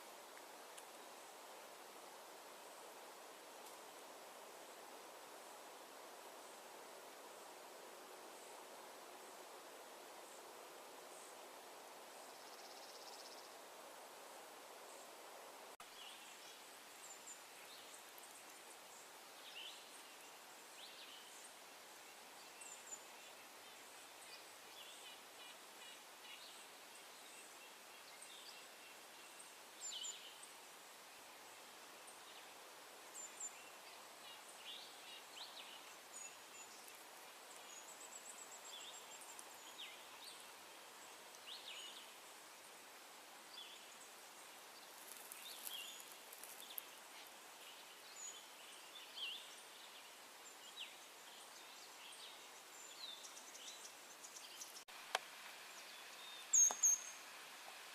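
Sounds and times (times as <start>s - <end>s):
faint birds chirping: 0.0s - 57.9s
soft outdoor hiss: 0.0s - 57.9s.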